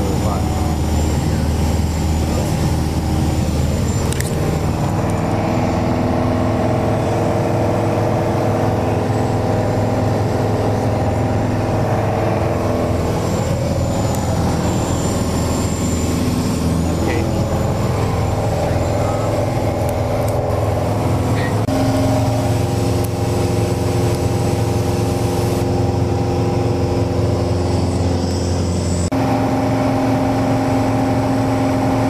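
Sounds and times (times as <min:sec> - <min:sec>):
plane engine and propeller drone: 0:00.0 - 0:32.0.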